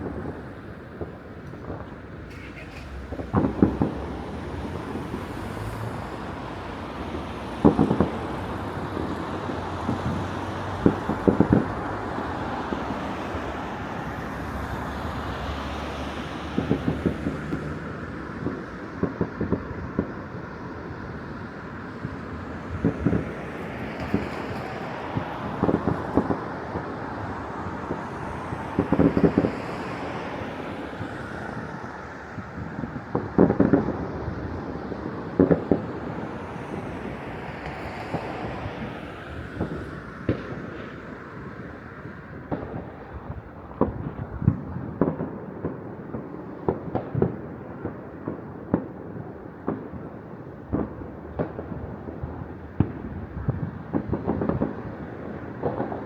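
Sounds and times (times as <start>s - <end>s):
city traffic hum: 0.0s - 56.0s
distant fireworks crackling: 0.0s - 56.0s.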